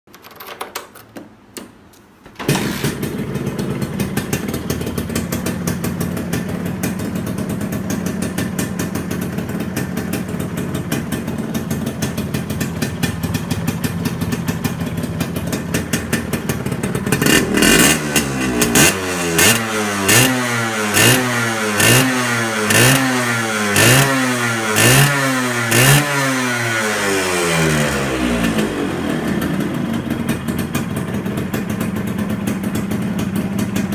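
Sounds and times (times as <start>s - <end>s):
two-stroke engine idling and revving: 2.5s - 33.9s.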